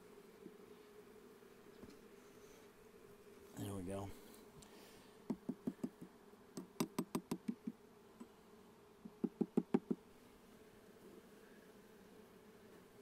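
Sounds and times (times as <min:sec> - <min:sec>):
bees humming: 0:00.0 - 0:13.0.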